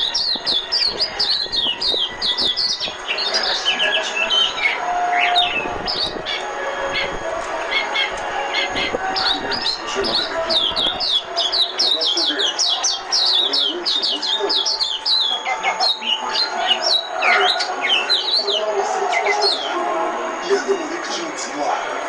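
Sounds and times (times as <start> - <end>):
bird twittering song: 0.0 - 19.8.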